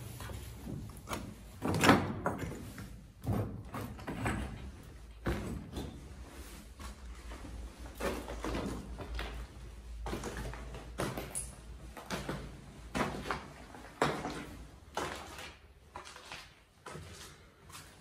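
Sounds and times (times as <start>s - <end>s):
slow footsteps climbing: 2.4s - 18.0s.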